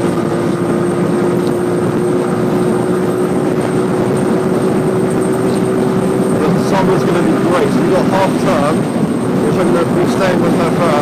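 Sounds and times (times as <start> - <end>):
motorbike engine cruising: 0.0 - 11.0
wind noise on microphone: 0.0 - 11.0.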